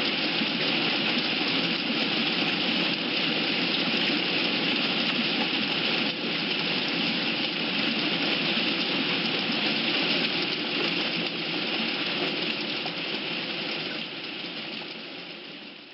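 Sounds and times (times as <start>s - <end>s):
steady rushing water-like noise: 0.0s - 15.9s.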